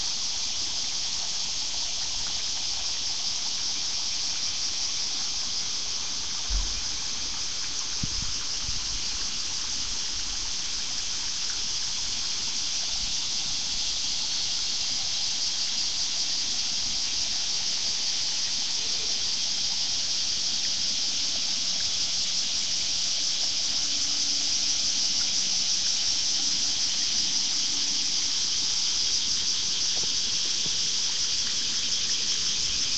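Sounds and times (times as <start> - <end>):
insects shrilling: 0.0 - 32.9.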